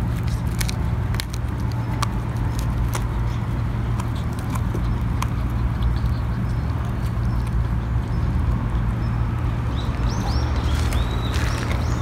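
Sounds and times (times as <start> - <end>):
dogs crunching bones: 0.0 - 12.0.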